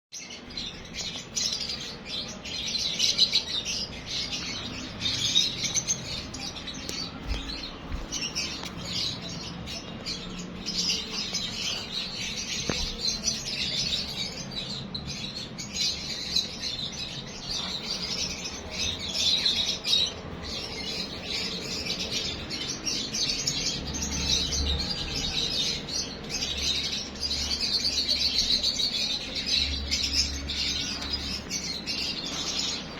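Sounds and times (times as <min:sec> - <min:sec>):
small birds chirping: 0:00.1 - 0:32.9.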